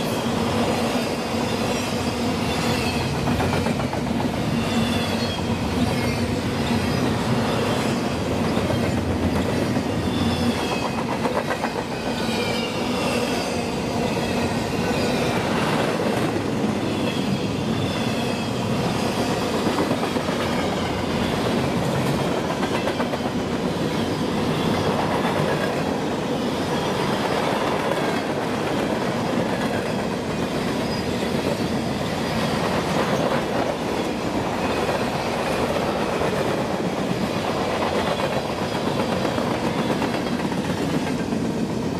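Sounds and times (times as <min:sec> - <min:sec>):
freight train rolling past: 0:00.0 - 0:41.9
steel wheels rumbling on rail: 0:00.0 - 0:41.9.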